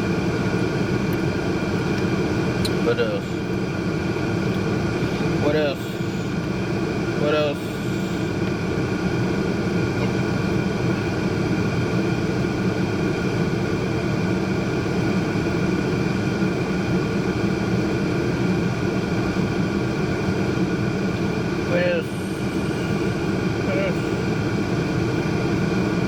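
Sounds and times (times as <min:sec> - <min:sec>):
vehicle cabin rumble and hum: 0:00.0 - 0:26.0.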